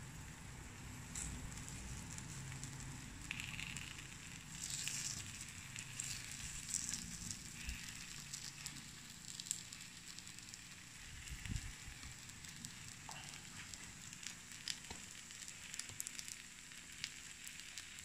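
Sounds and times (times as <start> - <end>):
batter sizzling and crackling: 0.0 - 18.0.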